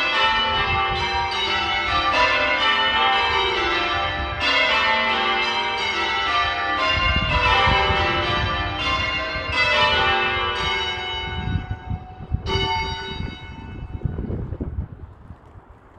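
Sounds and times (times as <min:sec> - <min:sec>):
church bells ringing: 0:00.0 - 0:14.5.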